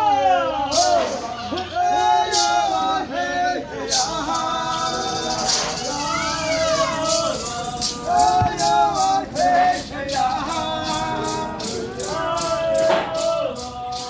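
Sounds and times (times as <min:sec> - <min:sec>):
voices chanting in unison: 0:00.0 - 0:14.0
maracas shaking: 0:00.6 - 0:14.0.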